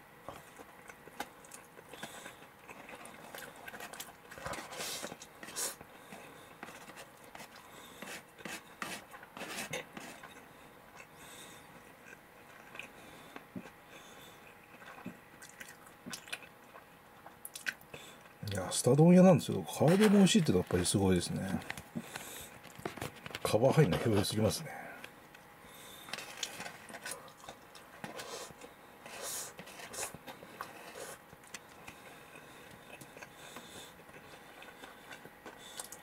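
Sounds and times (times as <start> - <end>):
person chewing crunchy food: 0.2 - 18.6, 19.7 - 24.2, 25.0 - 36.0.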